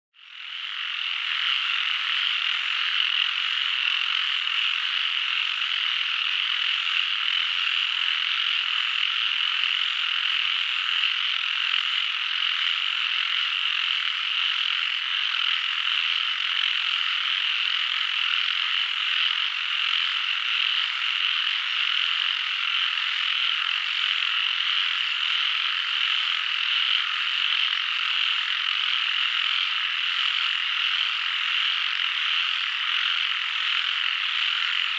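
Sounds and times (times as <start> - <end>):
frog chorus: 0.2 - 34.9.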